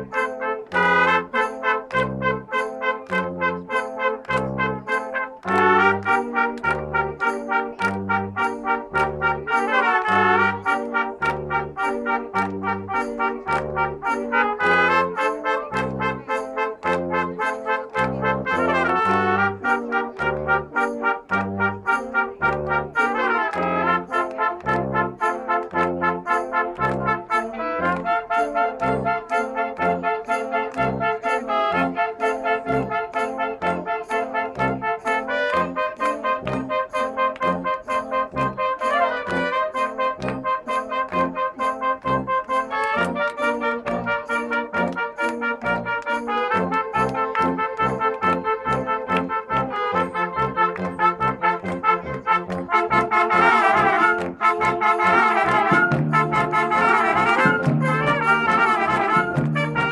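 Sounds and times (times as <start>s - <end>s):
concert band playing a march: 0.0s - 59.9s.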